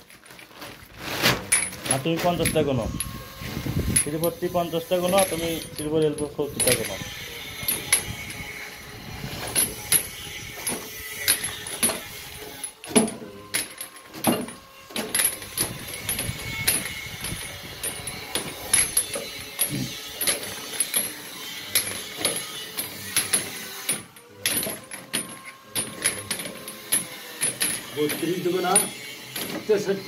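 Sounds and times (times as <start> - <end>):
pipe fittings clinking together: 1.5 - 8.6, 9.2 - 29.9.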